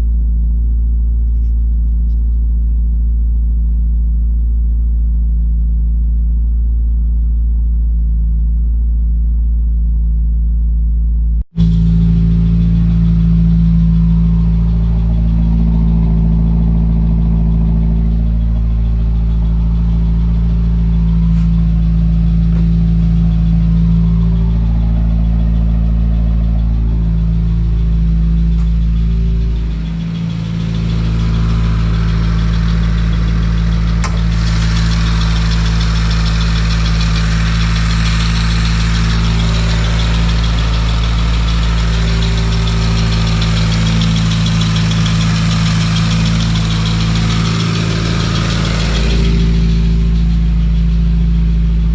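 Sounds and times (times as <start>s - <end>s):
car engine idling roughly: 0.0s - 51.9s.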